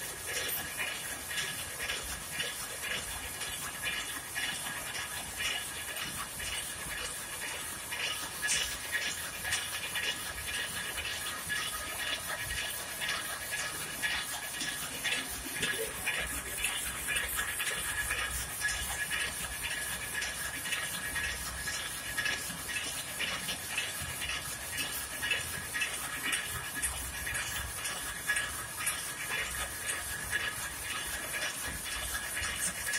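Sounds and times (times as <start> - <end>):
constant high hum: 0.0 - 32.9.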